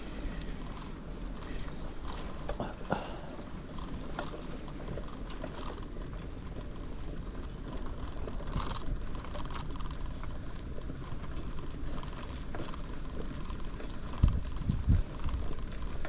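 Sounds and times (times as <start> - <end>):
bicycle tyres rumbling: 0.0 - 16.0
bike rattling: 0.0 - 16.0.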